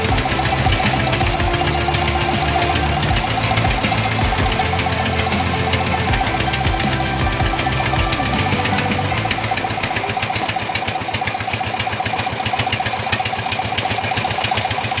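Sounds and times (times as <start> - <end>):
boat engine knocking: 0.0 - 15.0.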